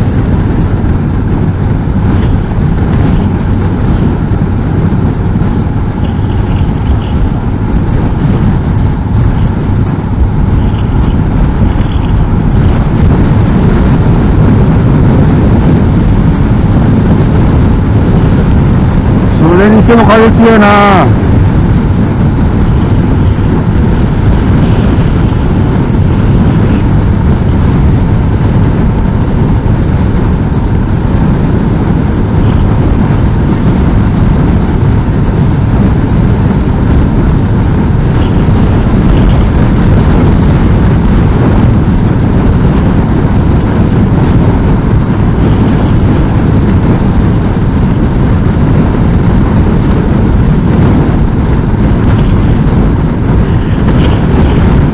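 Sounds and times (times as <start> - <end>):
motorcycle riding noise: 0.0 - 54.9
wind buffeting microphone: 0.0 - 54.9
wind rushing: 0.0 - 54.9.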